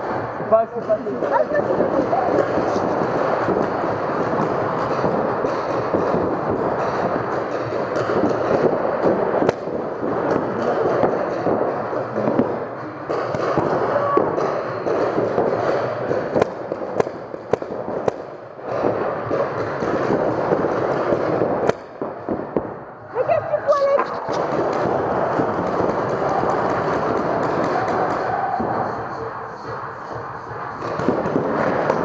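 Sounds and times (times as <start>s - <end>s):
paintballs hitting inflatable bunkers: 0.0s - 22.8s, 23.7s - 29.1s, 30.7s - 32.0s
paintball markers firing: 0.8s - 22.7s, 24.0s - 28.9s, 30.8s - 32.0s.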